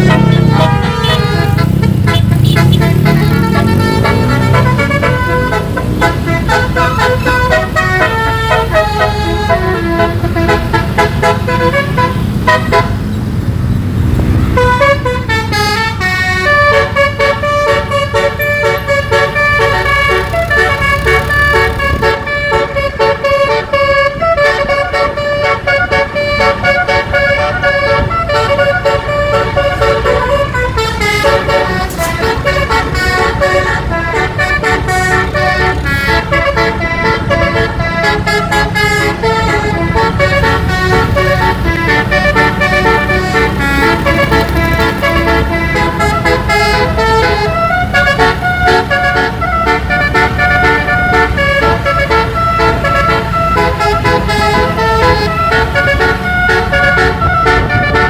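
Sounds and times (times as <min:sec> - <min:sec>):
bus engine running: 0:00.0 - 0:58.0
bus horn playing melody: 0:00.0 - 0:58.0.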